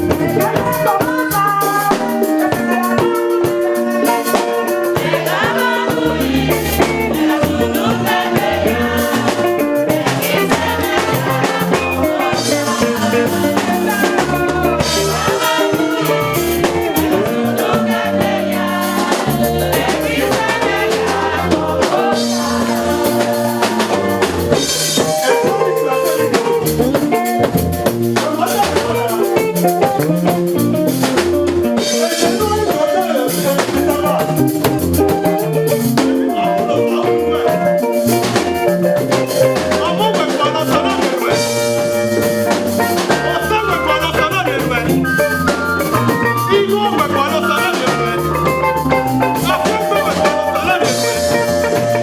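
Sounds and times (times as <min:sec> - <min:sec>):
drum kit beat: 0:00.0 - 0:52.0
keyboard instruments: 0:00.0 - 0:52.0
live worship music: 0:00.0 - 0:52.0.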